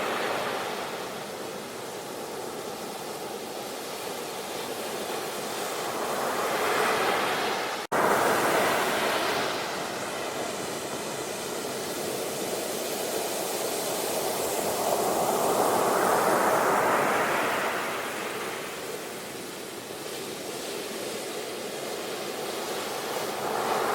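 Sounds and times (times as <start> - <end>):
ocean waves breaking: 0.0 - 23.9.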